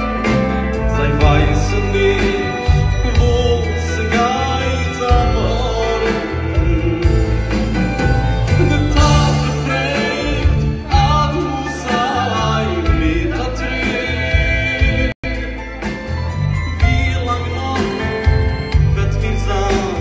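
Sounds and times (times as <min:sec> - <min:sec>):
man singing: 0:00.0 - 0:16.0, 0:16.6 - 0:20.0
orchestra with violins: 0:00.0 - 0:20.0
steady bass line: 0:00.0 - 0:20.0.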